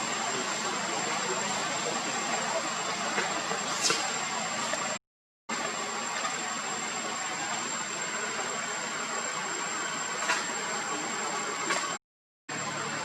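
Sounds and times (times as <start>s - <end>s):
thin high steady whine: 0.0s - 13.0s.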